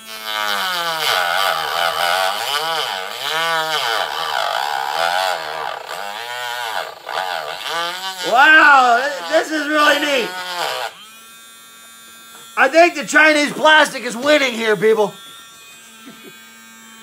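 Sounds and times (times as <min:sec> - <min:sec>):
rotary tool cutting plastic: 0:00.0 - 0:11.2, 0:13.6 - 0:17.0.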